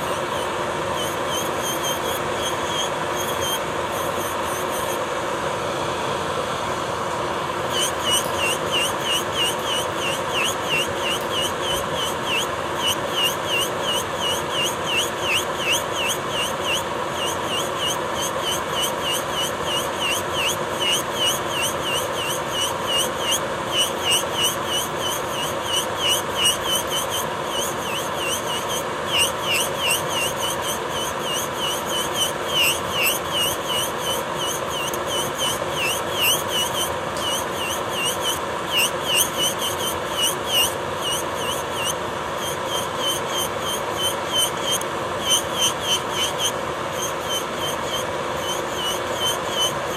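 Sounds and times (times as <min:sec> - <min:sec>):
electric nail drill whining: 0:07.6 - 0:49.9.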